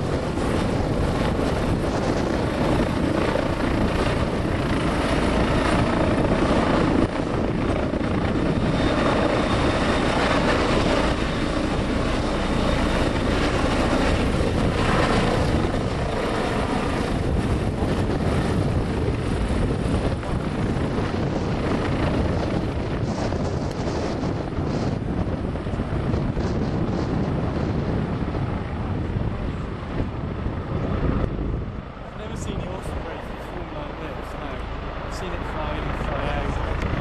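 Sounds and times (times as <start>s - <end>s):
tiltrotor aircraft rotor noise: 0.0s - 37.0s.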